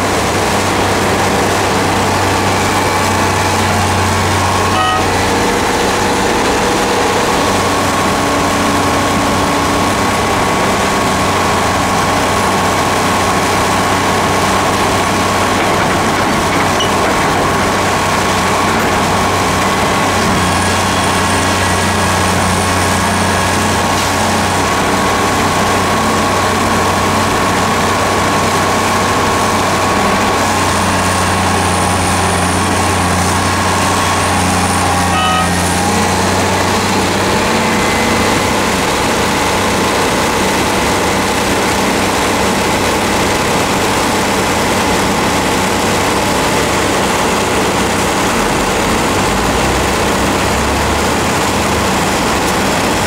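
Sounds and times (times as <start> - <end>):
steady high whine: 0.0 - 52.5
excavator diesel engine running: 0.0 - 53.0.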